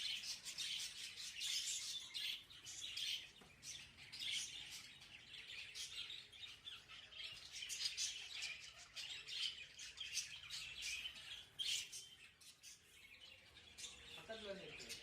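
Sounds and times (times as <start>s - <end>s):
budgerigars chirping: 0.0s - 12.9s.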